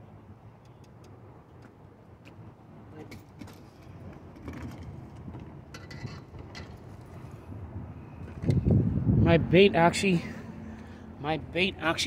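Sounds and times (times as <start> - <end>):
wind rumble on microphone: 0.1 - 10.0.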